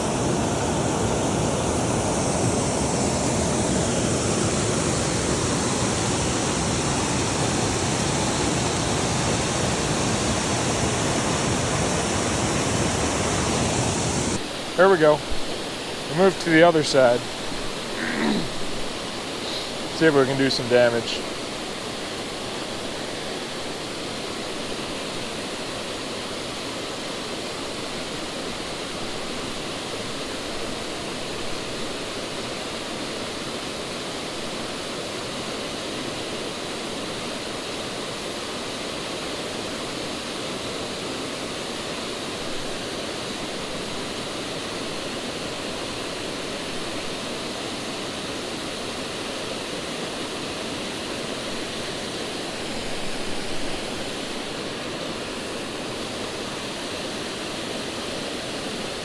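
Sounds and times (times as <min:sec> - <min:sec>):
waterfall rushing into pool: 0:00.0 - 0:59.0.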